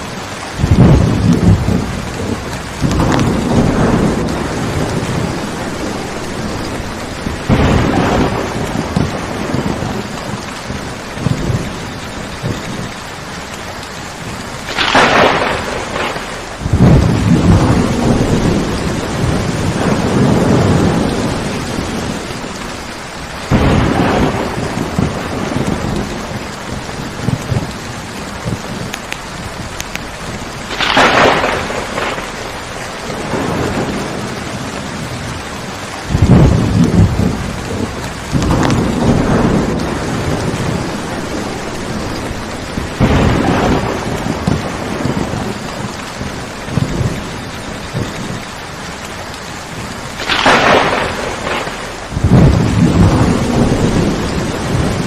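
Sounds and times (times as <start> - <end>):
heavy rain: 0.0 - 55.0
thunder claps and rolls: 0.0 - 55.0.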